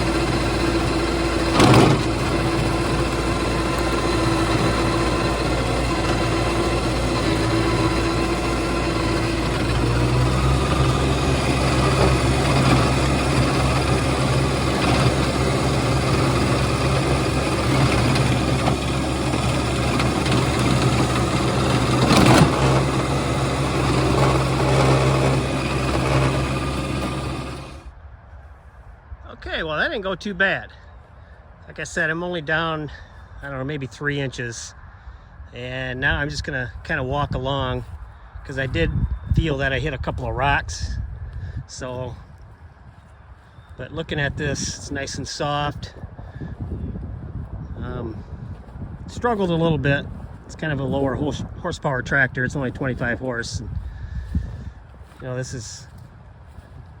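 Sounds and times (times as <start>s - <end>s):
diesel tractor engine under load: 0.0s - 28.0s, 36.0s - 57.0s.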